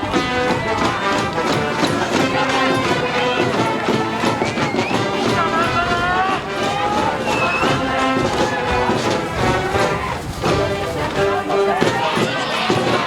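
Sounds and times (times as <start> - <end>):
steady drum beats: 0.0 - 13.0
trumpets and brass melody: 0.0 - 13.0.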